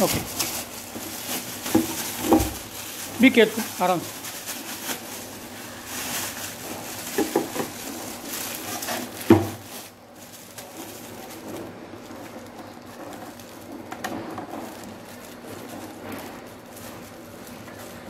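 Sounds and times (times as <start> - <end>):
plastic bags rustling: 0.0 - 18.0.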